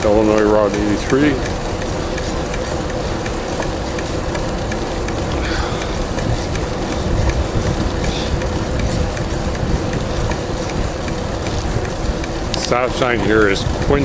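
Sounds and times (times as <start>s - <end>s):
bicycle rolling on paved road: 0.0s - 14.0s
faint regular ticking: 0.0s - 14.0s
wind on microphone: 1.0s - 14.0s.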